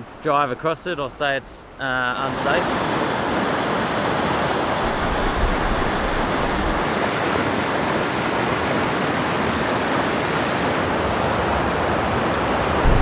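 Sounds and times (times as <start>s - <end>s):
water rushing over causeway: 1.8s - 13.0s.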